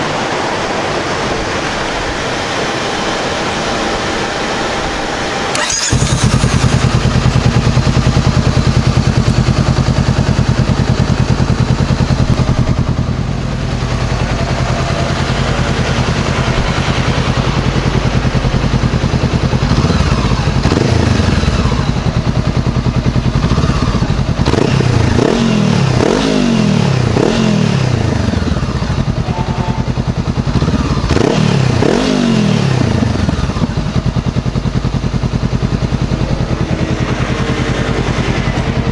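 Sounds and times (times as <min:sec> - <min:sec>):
motorcycle engine revving: 0:03.3 - 0:38.9
motorcycle engine idling: 0:05.5 - 0:38.9.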